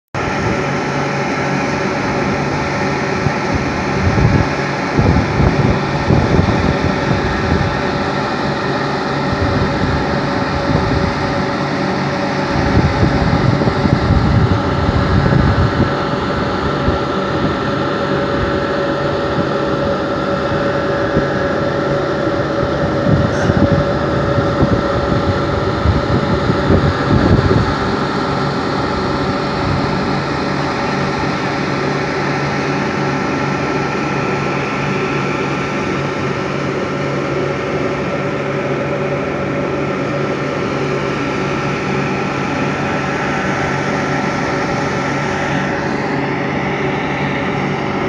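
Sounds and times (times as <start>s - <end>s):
machinery drone of motors: 0.2s - 48.0s.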